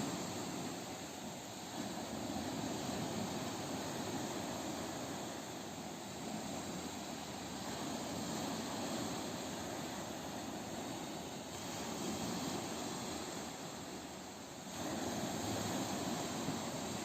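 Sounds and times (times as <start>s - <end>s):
ocean waves on a beach: 0.0s - 17.0s.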